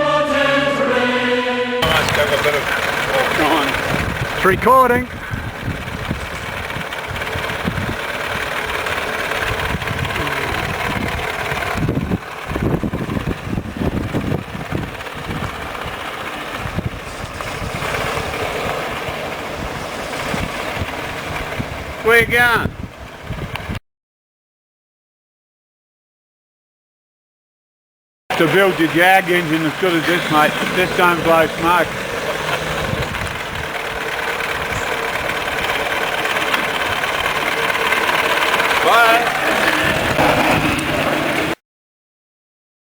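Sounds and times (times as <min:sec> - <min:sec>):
car engine idling: 0:00.0 - 0:23.8, 0:28.3 - 0:41.6.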